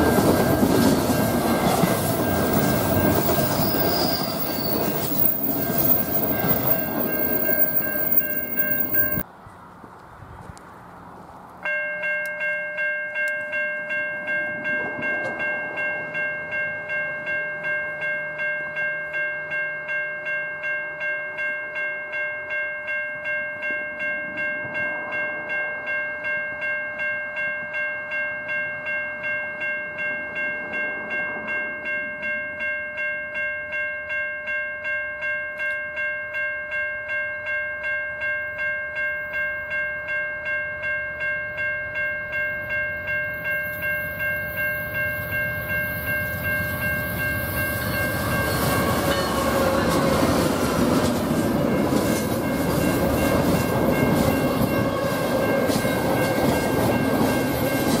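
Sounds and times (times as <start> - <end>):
crossing warning bell ringing: 0.0 - 9.3, 11.6 - 58.0.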